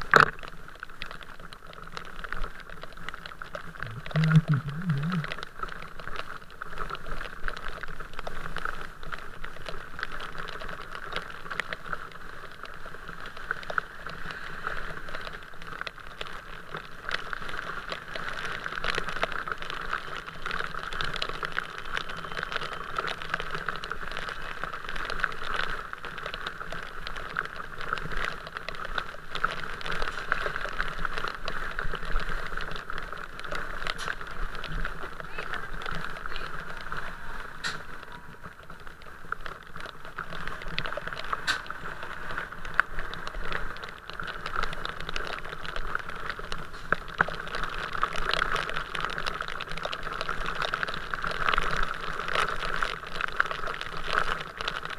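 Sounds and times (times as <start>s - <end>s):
raindrops tapping: 0.0s - 54.9s
steady rain: 0.0s - 54.9s.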